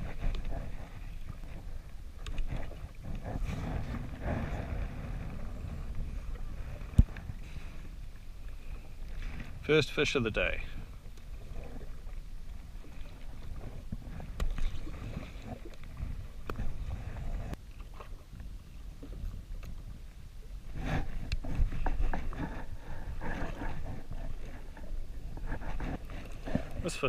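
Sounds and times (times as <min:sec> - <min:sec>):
sea water lapping against hull: 0:00.0 - 0:27.0
wind rumbling on microphone: 0:00.0 - 0:27.0.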